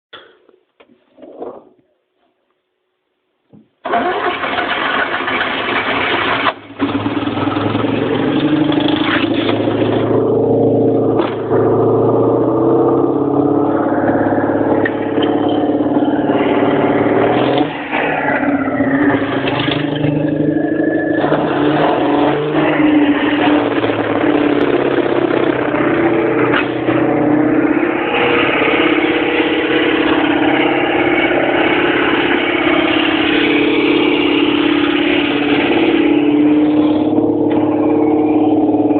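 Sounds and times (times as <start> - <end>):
car engine running: 5.7 - 38.9.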